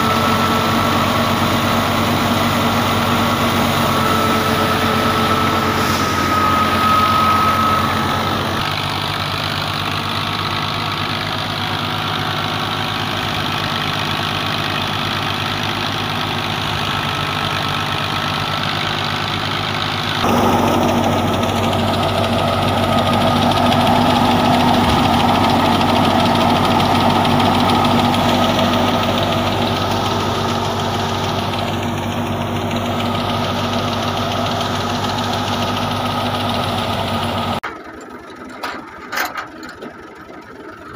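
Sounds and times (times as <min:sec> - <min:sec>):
thresher machine running: 0:00.0 - 0:40.9
tractor diesel engine running: 0:00.0 - 0:40.9.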